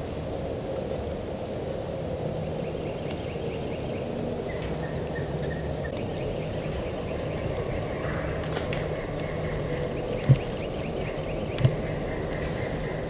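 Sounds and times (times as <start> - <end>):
songbirds chirping: 1.8 - 13.0.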